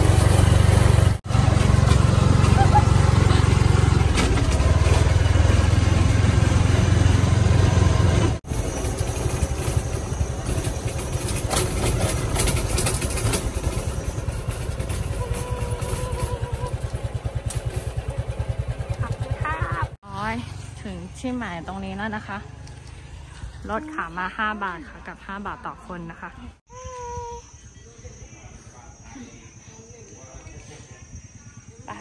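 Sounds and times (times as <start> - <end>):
motorcycle engine rumbling: 0.0 - 32.0.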